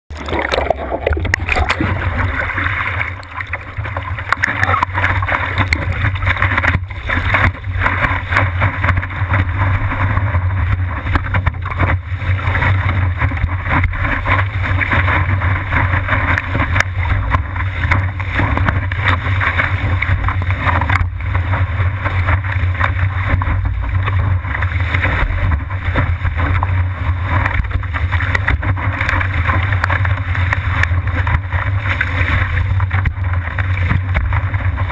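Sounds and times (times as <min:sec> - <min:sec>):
water rushing under surfboard: 0:00.1 - 0:34.9.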